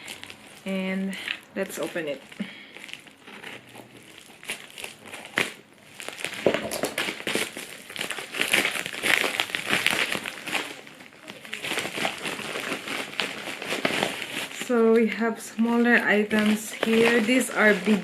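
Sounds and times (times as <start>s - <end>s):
parcel packaging crinkling: 0.0s - 18.0s.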